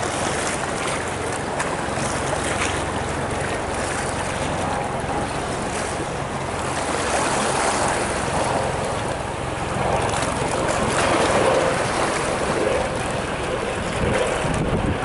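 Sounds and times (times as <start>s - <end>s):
waves splashing against rocks: 0.0s - 15.0s
wind buffeting microphone: 0.0s - 15.0s.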